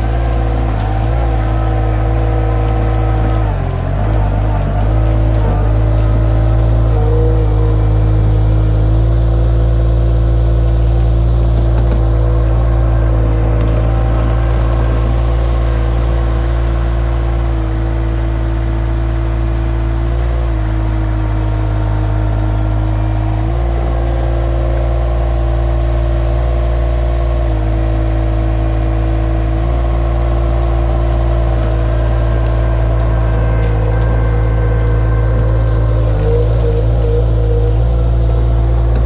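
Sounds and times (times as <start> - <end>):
skid steer engine running: 0.0 - 39.0.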